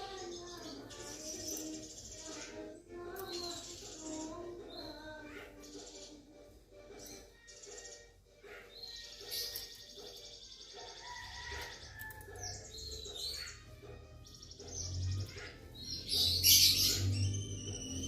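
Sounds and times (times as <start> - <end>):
bird song whistles and trills: 0.0 - 18.0.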